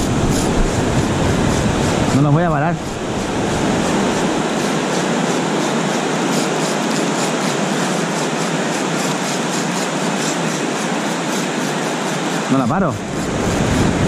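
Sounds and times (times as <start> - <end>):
fishing reel drag buzzing: 0.0 - 14.0.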